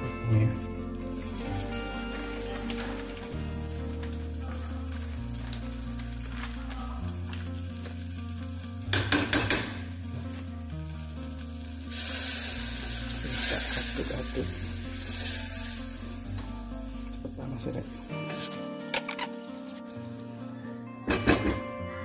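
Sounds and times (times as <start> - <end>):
fat sizzling in a saucepan: 0.0 - 21.6.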